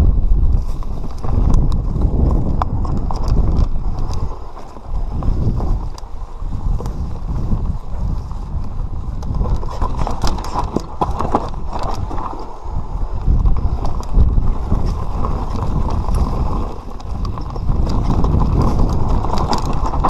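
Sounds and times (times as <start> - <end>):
bike rattling over bumps: 0.0 - 20.0
tyres rumbling on dirt trail: 0.0 - 20.0.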